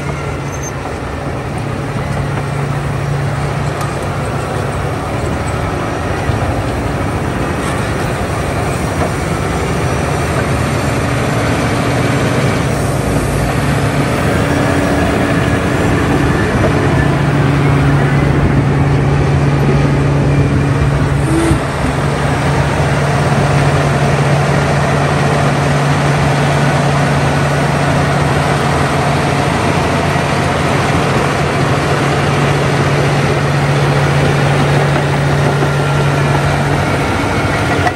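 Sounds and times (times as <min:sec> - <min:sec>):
bulldozer diesel engine droning: 0:00.0 - 0:37.9.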